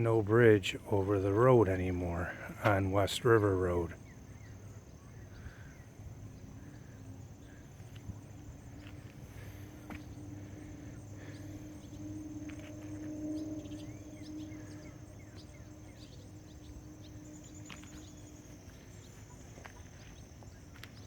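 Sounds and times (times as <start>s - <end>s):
low motor hum: 0.0s - 21.0s
high insect buzz: 1.3s - 21.0s.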